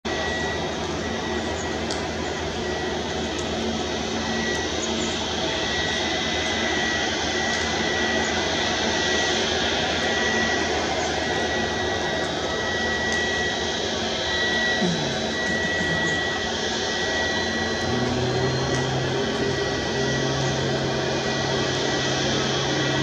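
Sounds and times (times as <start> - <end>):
jet engine running: 0.1 - 23.0.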